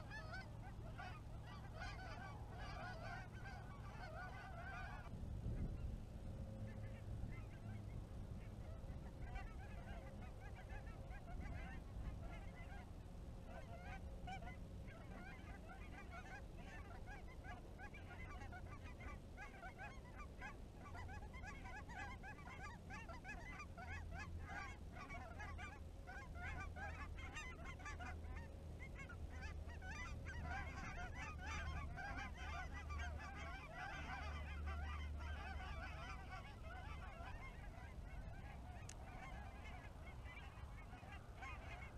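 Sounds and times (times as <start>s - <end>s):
flock of geese honking: 0.0s - 41.9s.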